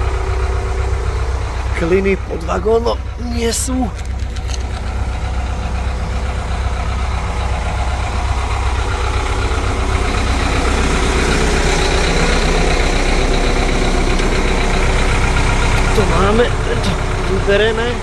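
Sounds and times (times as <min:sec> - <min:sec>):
locomotive engine rumbling: 0:00.0 - 0:18.0.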